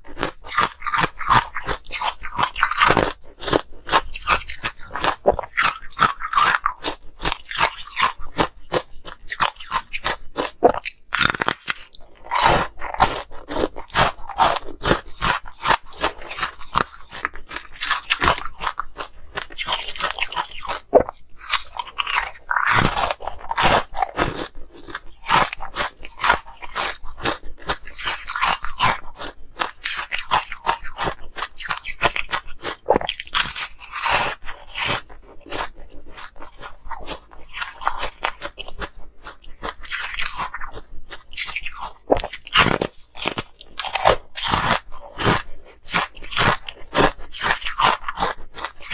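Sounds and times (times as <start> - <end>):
crunching ice: 0.0 - 39.0, 39.6 - 48.9.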